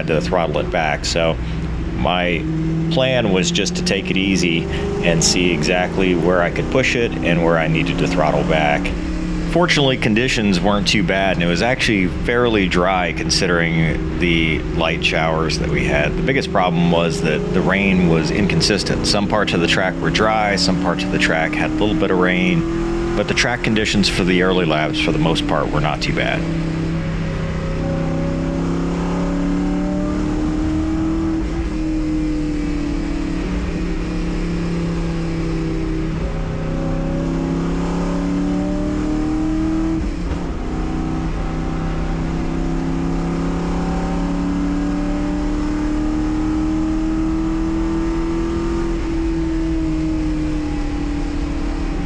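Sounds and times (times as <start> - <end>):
race car engine running hard: 0.0 - 52.0.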